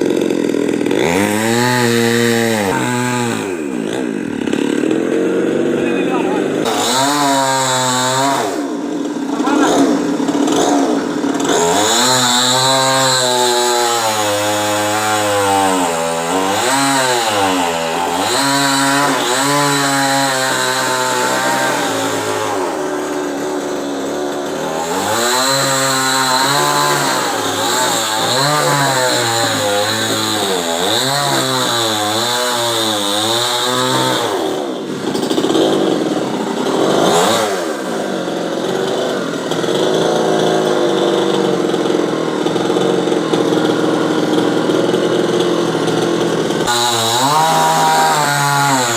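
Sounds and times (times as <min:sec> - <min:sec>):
chainsaw revving while cutting wood: 0:00.0 - 0:48.9.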